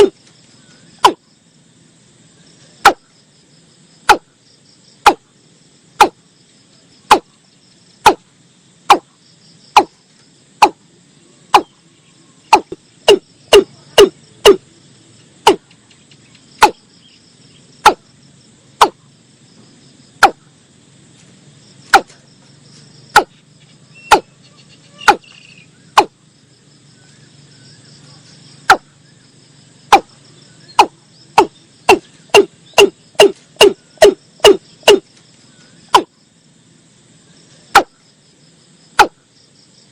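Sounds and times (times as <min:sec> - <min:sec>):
insect hum: 0:00.0 - 0:39.9.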